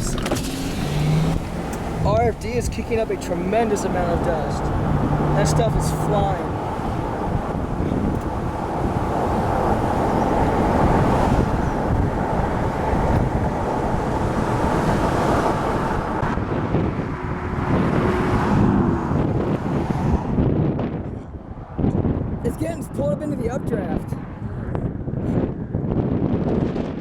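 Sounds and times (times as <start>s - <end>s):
strong wind rushing over microphone: 0.0s - 27.0s.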